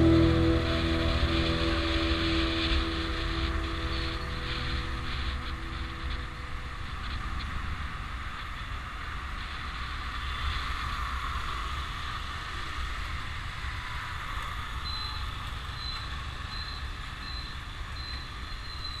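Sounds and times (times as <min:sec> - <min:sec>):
motorbike engine and road noise: 0:00.0 - 0:19.0
wind rumble on microphone: 0:00.0 - 0:19.0.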